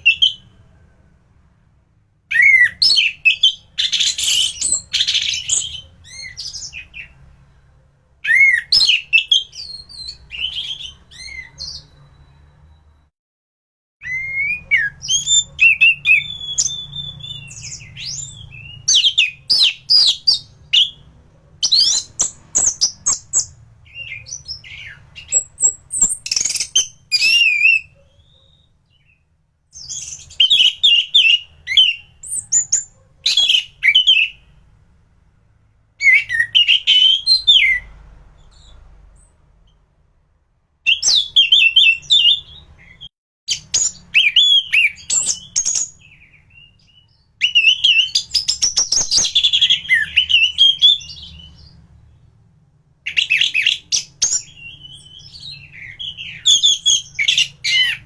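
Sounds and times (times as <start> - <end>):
thrush singing whistles and trills: 2.3 - 13.1, 14.0 - 34.6, 36.0 - 37.9, 40.8 - 51.8, 53.1 - 58.0.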